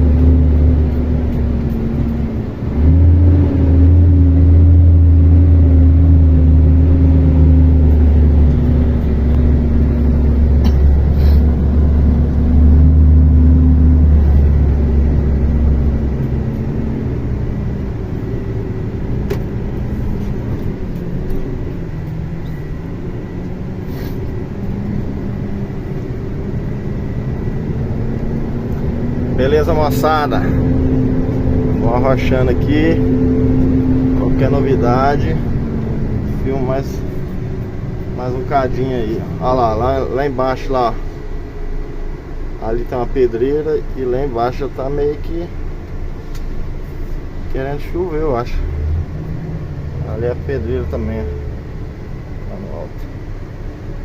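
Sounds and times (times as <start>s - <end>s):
truck diesel engine under load: 0.0s - 54.0s.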